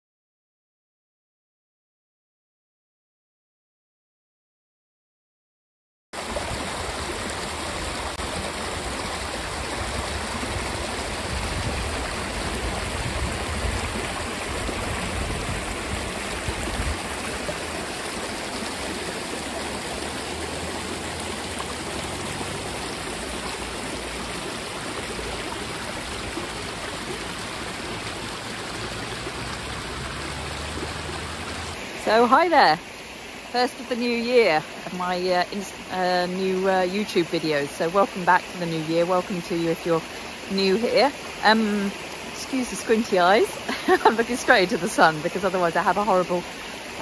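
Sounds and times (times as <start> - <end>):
water rushing over rocks: 6.2 - 47.0.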